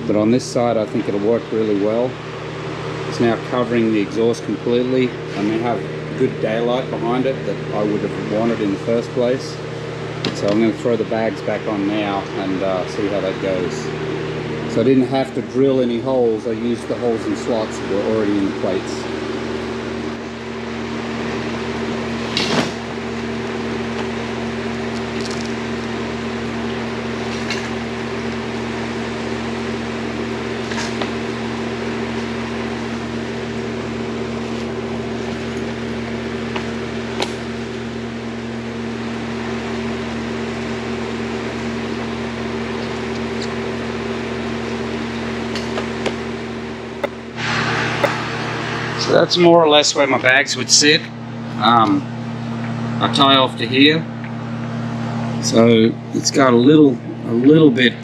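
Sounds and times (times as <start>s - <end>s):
electric fan humming: 0.0s - 58.0s.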